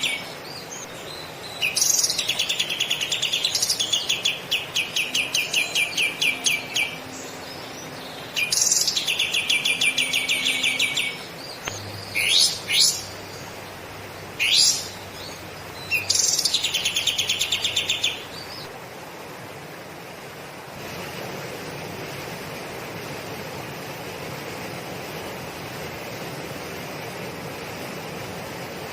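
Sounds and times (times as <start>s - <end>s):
background hiss: 0.0s - 28.9s.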